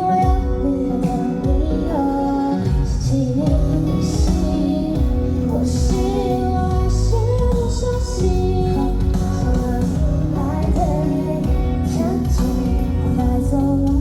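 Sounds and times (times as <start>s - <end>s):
band playing with guitar: 0.0s - 14.0s
person singing: 0.0s - 14.0s.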